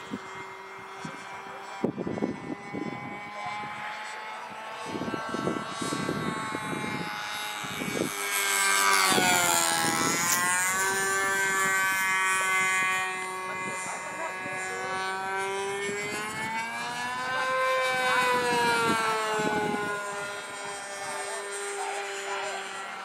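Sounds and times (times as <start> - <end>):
model airplane engine whine: 0.0 - 23.0.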